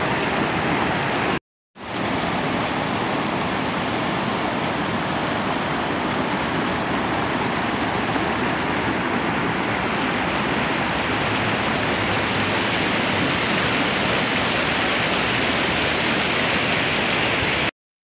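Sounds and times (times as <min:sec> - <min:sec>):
river water rushing: 0:00.0 - 0:17.7.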